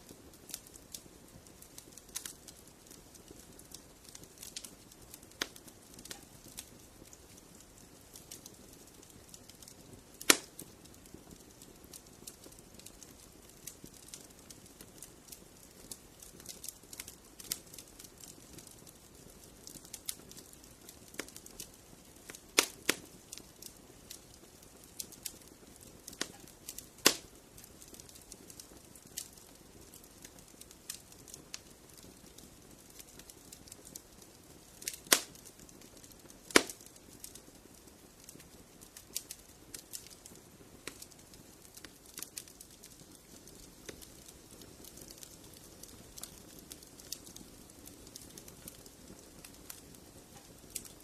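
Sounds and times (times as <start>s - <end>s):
fire crackling and popping: 0.0s - 51.0s.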